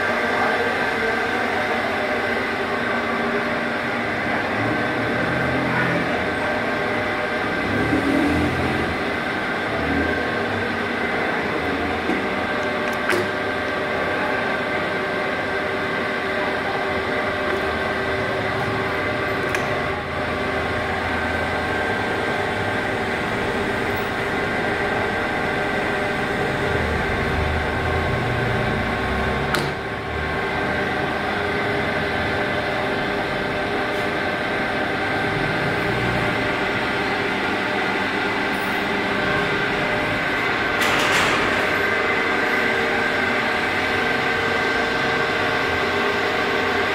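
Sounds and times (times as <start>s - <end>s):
metal lathe humming and whining: 0.0s - 46.9s.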